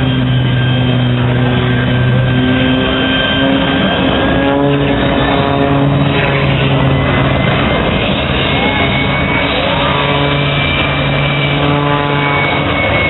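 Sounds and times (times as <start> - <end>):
jet engines hum and whine: 0.0 - 13.0.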